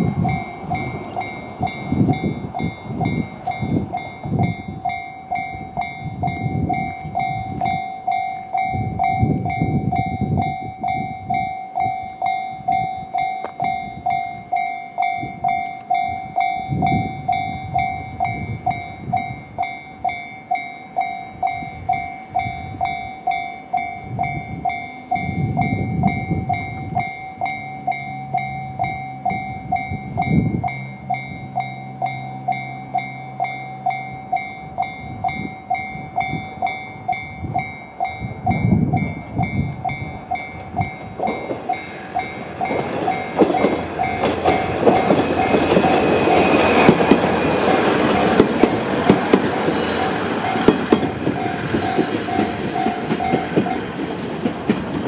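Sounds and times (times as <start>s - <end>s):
diesel railcar passing: 0.0s - 55.0s
level crossing warning bell: 0.0s - 55.0s.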